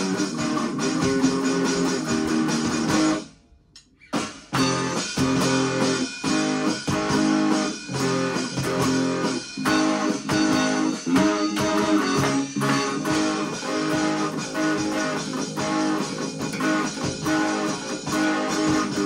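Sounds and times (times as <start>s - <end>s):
rock band with strummed guitars: 0.0s - 3.3s, 4.0s - 19.0s.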